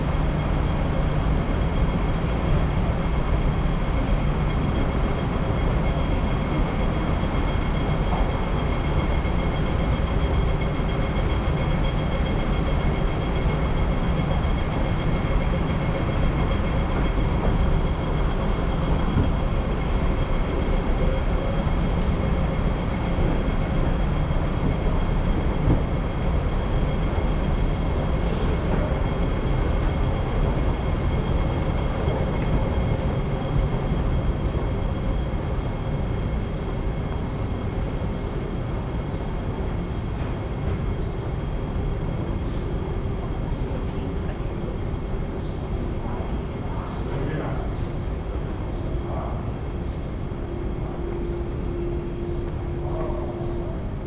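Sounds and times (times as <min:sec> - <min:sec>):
escalator machinery rumble: 0:00.0 - 0:54.0
faint high whine: 0:00.0 - 0:54.0.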